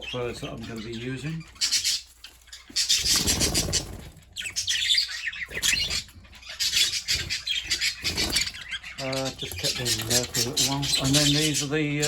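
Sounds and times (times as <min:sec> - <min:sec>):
budgerigars chattering and chirping: 0:00.0 - 0:12.0.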